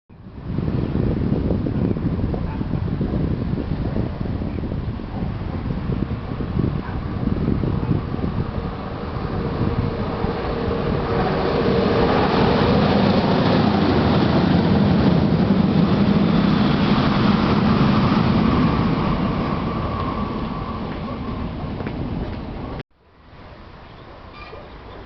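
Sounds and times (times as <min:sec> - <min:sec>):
electric train passing: 0:03.0 - 0:25.0.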